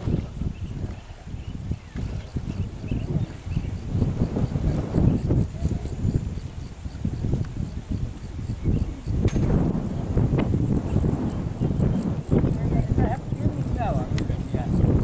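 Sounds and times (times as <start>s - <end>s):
low uneven rumble: 0.0s - 15.0s
insect chirping: 0.1s - 15.0s.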